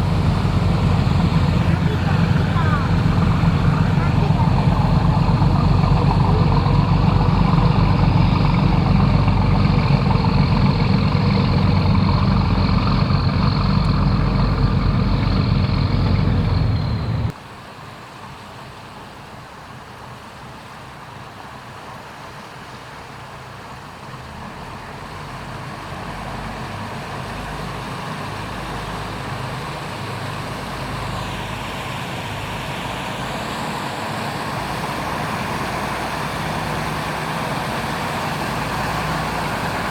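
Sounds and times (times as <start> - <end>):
boat engines running: 0.0 - 17.3, 23.2 - 39.9
boat engine drone: 0.0 - 17.4, 22.3 - 39.9.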